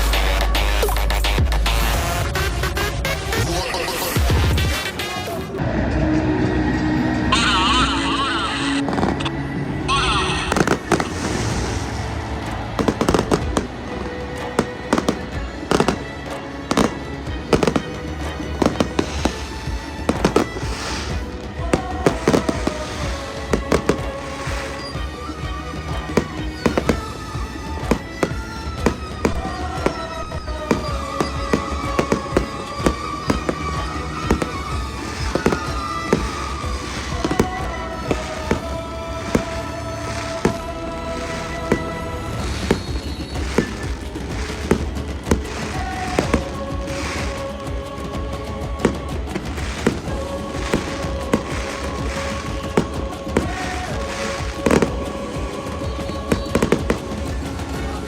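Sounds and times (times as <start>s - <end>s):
fireworks banging: 7.3s - 58.0s
fireworks hissing: 7.3s - 58.0s.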